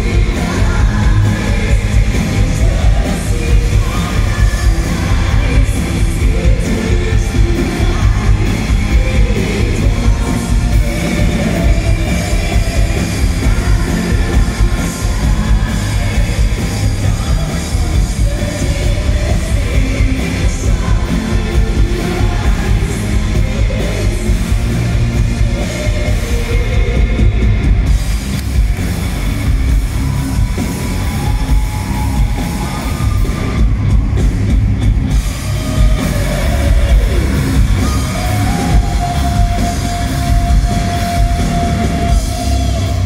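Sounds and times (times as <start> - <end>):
rock band playing live: 0.0 - 43.0.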